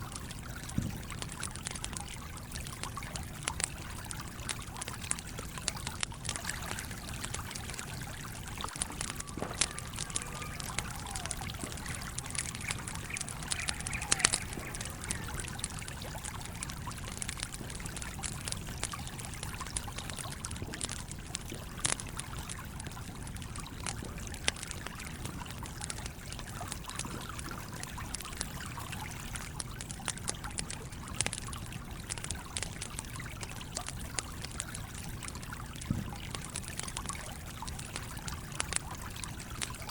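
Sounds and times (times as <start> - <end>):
campfire crackling and popping: 0.0 - 39.9
small stream trickling: 0.0 - 39.9.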